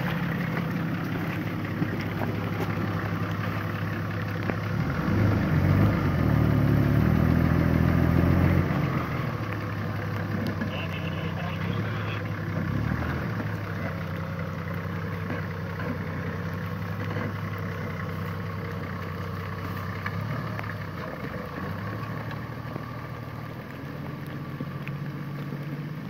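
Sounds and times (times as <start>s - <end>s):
diesel engine running at low revs: 0.0s - 26.0s.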